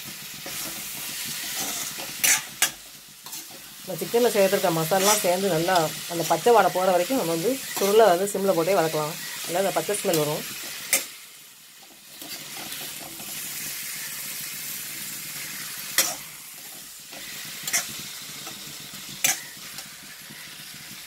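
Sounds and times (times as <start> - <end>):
chicken sizzling in oil: 0.0 - 21.0
metal spatula stirring: 0.4 - 11.2, 11.8 - 13.9, 15.4 - 19.9.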